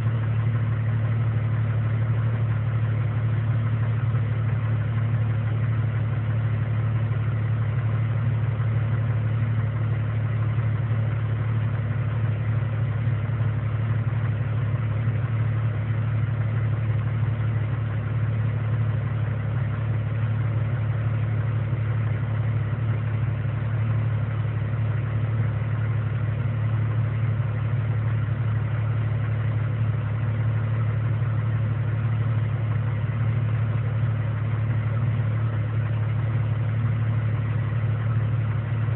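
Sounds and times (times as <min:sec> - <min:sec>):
car engine idling roughly: 0:00.0 - 0:38.9.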